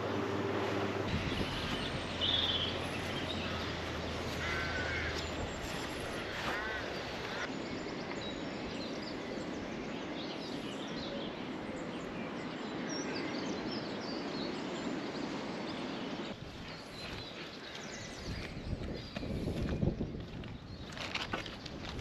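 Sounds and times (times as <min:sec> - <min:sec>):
small birds chirping: 0:01.1 - 0:22.0.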